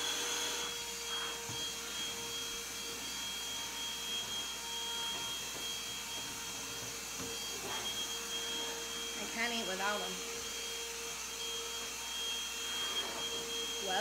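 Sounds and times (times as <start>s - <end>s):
faint whining tones: 0.2s - 14.0s.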